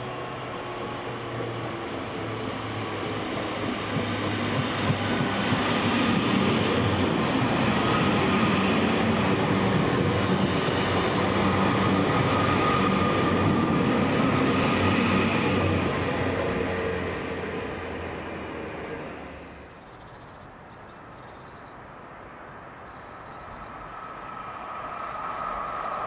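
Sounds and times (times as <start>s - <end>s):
train rolling past: 0.0s - 20.3s, 22.7s - 26.0s.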